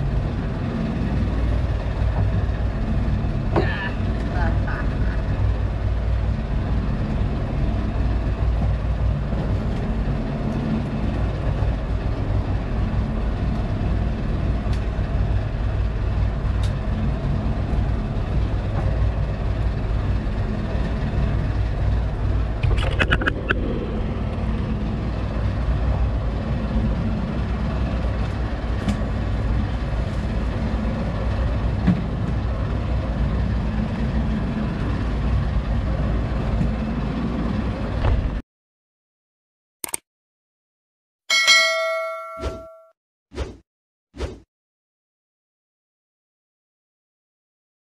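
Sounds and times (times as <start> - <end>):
boat engine humming: 0.0 - 38.4.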